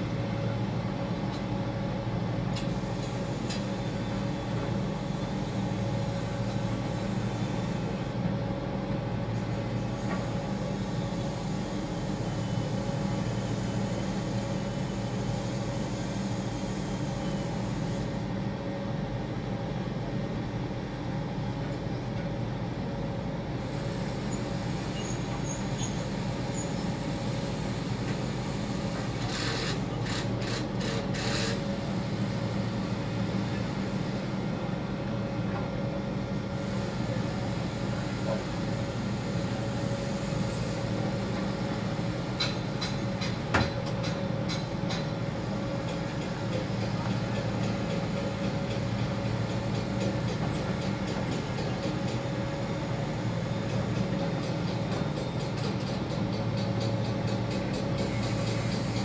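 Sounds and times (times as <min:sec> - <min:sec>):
crane machinery hum: 0:00.0 - 0:59.0.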